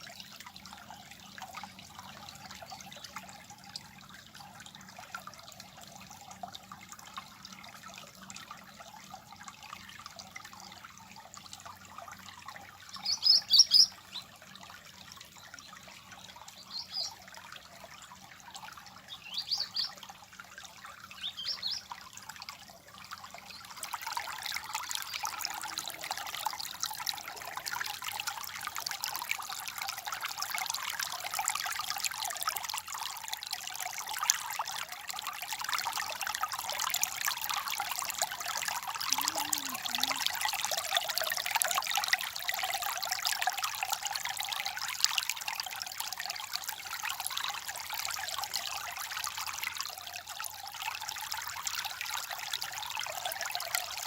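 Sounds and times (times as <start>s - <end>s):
water trickling and babbling: 0.0s - 54.0s.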